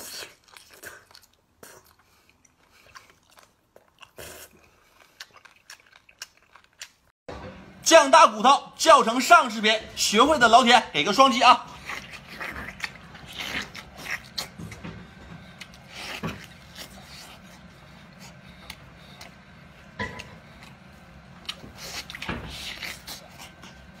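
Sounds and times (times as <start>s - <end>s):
chewing and lip-smacking: 0.0s - 7.1s, 11.7s - 24.0s.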